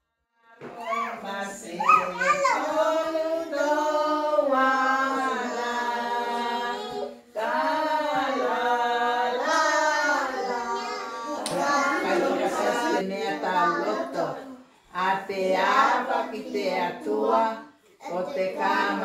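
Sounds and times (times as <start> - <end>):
voices singing slow melody: 0.5 - 19.0.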